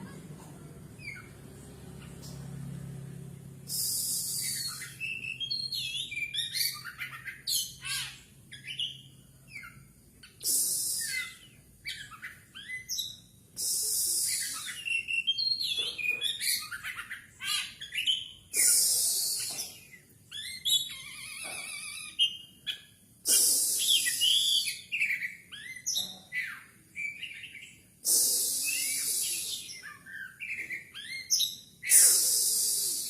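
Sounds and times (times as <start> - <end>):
songbirds singing: 0.8 - 33.0.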